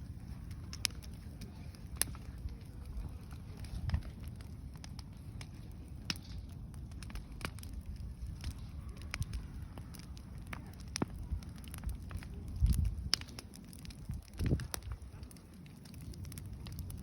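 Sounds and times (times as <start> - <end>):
bonfire crackling and popping: 0.0 - 17.0
steady low rumble: 0.0 - 17.0.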